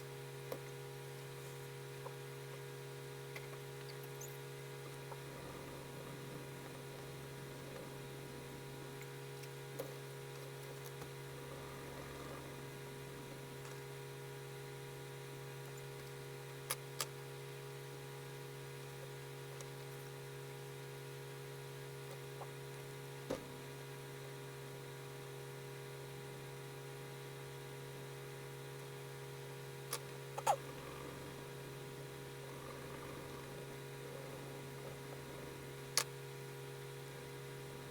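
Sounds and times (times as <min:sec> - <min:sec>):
low electrical hum: 0:00.0 - 0:37.9.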